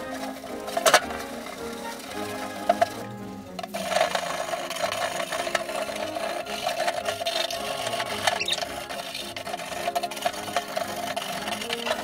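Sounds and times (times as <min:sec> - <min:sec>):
wire brush scraping wet metal: 0:00.0 - 0:12.0.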